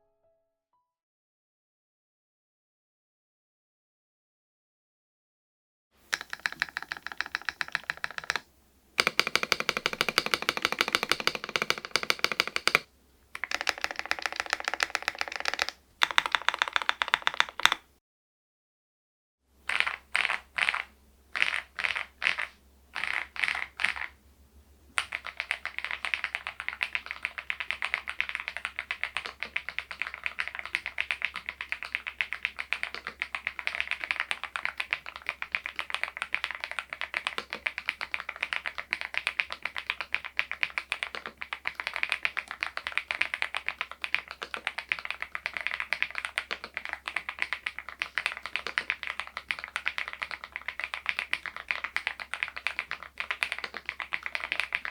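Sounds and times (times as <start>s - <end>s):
mechanical keyboard typing: 6.1s - 17.9s, 19.7s - 24.1s, 25.0s - 54.9s.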